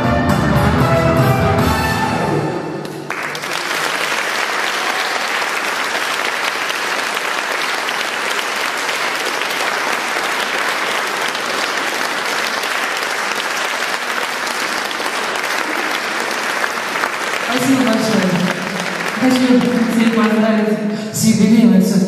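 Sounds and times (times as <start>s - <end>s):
audience applauding: 2.8s - 20.9s.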